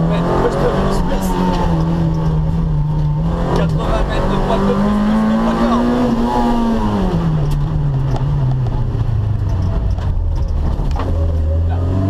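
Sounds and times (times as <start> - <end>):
rally car engine revs: 0.0 - 12.0
road and tyre noise: 0.0 - 12.0.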